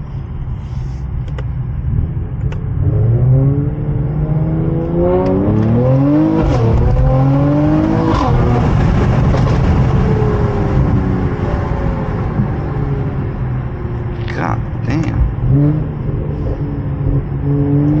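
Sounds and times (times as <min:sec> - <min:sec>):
car engine accelerating hard: 0:01.8 - 0:18.0.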